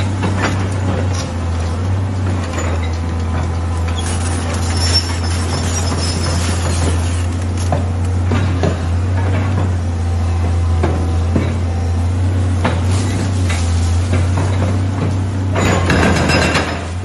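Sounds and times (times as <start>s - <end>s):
diesel engine low hum: 0.0s - 17.0s.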